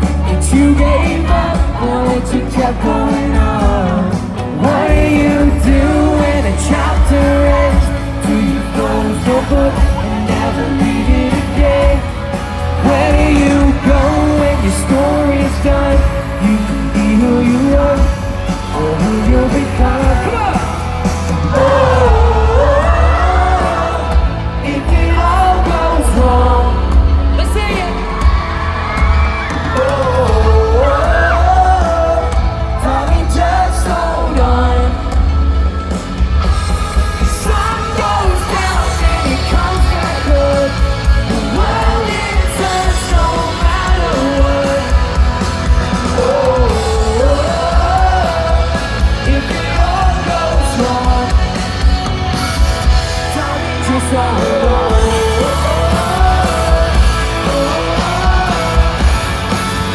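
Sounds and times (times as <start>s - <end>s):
drums: 0.0s - 59.9s
electric guitar: 0.0s - 59.9s
fans screaming and yelling: 0.0s - 59.9s
heavy bass: 0.0s - 59.9s
man singing lead vocals: 0.0s - 59.9s.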